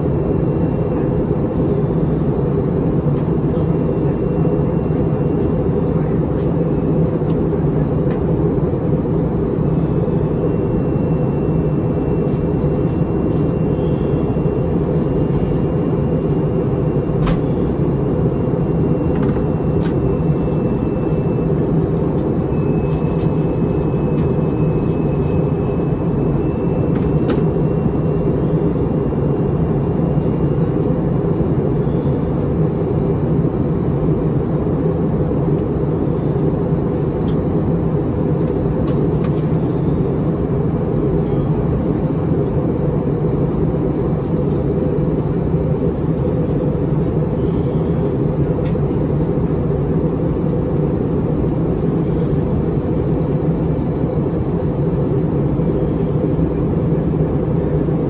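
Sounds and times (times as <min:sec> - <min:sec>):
airplane cabin engine and airflow rush: 0:00.0 - 0:58.0.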